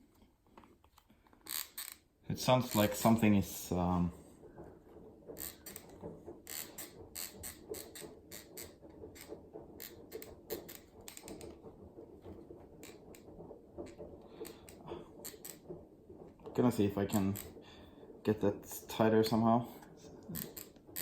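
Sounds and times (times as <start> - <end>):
pedal crackling clicks: 0.0 - 21.0.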